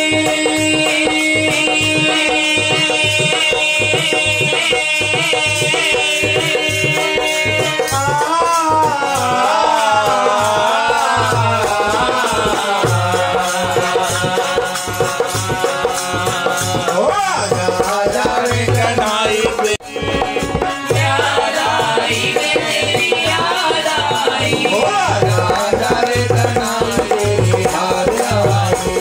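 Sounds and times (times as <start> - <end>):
harmonium: 0.0 - 29.0
man singing devotional song: 0.0 - 29.0
percussion beat: 0.0 - 29.0.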